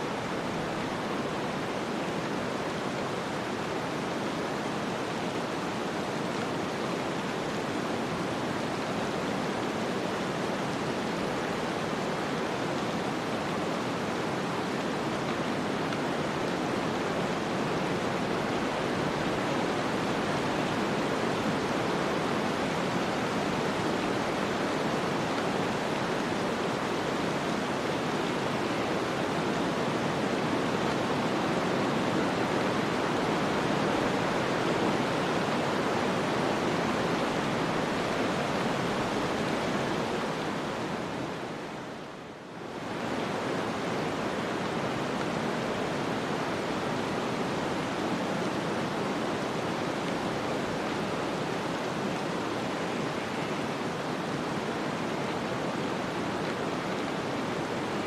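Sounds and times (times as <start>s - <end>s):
wind-driven storm noise: 0.0s - 58.0s.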